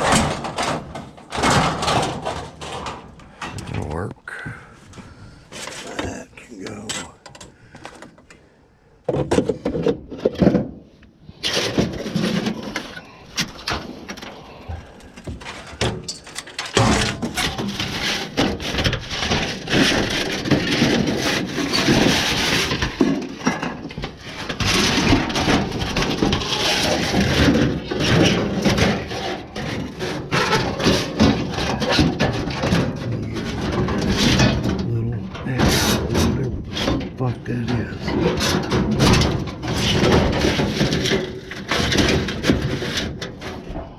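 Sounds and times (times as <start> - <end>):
scrap clattering and scraping: 0.0 - 8.5, 9.1 - 43.9.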